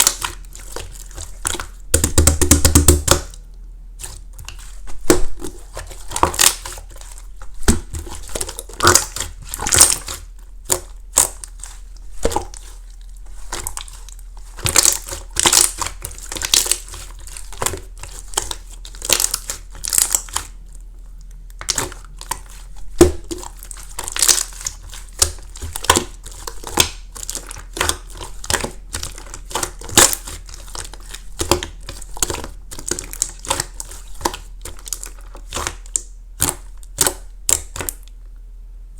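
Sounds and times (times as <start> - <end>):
slime crackling and popping: 0.0 - 2.2, 4.0 - 20.6, 21.5 - 38.1.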